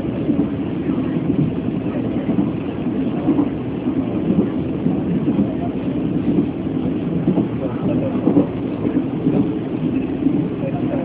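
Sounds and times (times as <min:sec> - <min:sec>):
train coach rumbling on track: 0:00.0 - 0:11.0.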